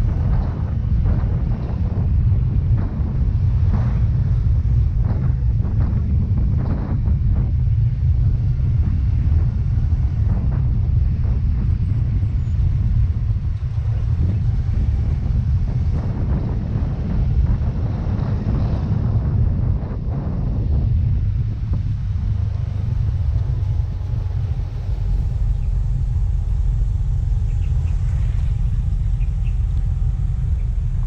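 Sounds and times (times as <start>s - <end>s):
scooter engine and road noise: 0.0s - 31.0s
wind rushing over microphone: 0.0s - 31.0s.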